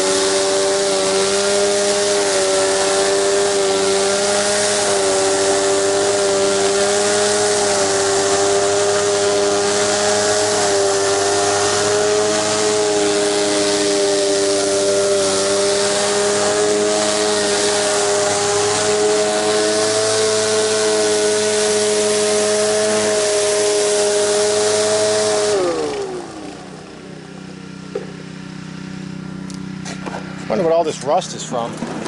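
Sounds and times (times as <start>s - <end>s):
water spraying at high pressure: 0.0s - 29.1s
pressure washer engine running: 0.0s - 32.0s.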